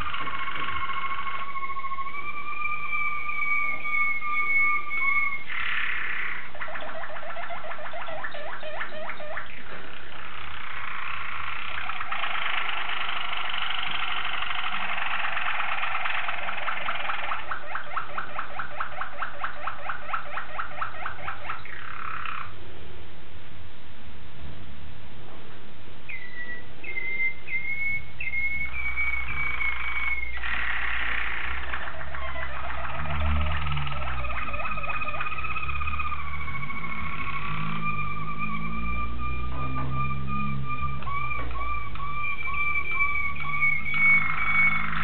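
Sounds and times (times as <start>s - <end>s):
canary singing trills: 0.0s - 22.6s, 26.1s - 45.0s.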